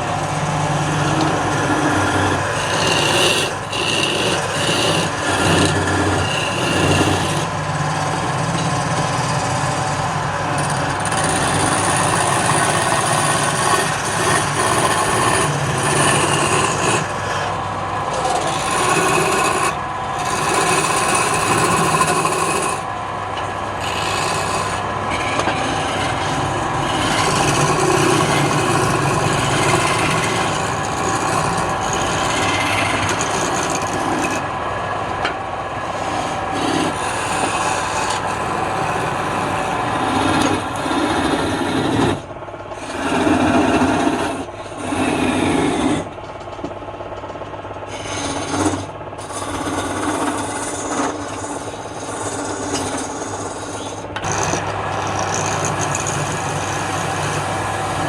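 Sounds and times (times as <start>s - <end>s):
tool scraping spinning wood: 0.0s - 58.0s
wood lathe motor hum: 0.0s - 58.0s.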